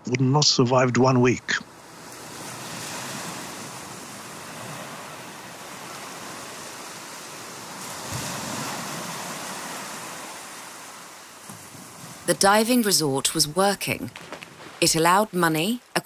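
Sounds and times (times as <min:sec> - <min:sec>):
sea waves washing onto shore: 0:01.7 - 0:16.0.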